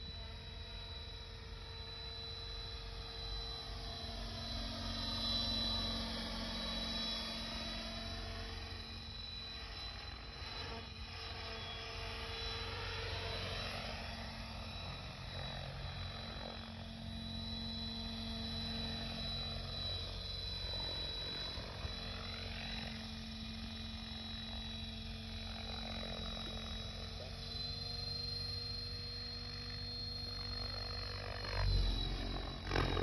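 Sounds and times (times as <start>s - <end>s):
rc helicopter motor whine: 0.0s - 33.0s.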